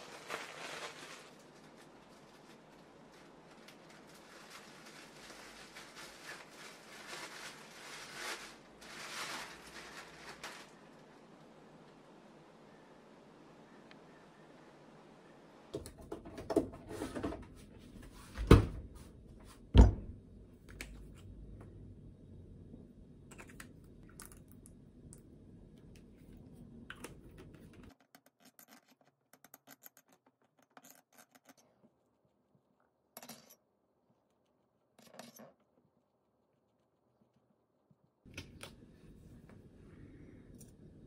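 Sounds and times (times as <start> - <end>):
faint background noise: 0.0 - 41.0.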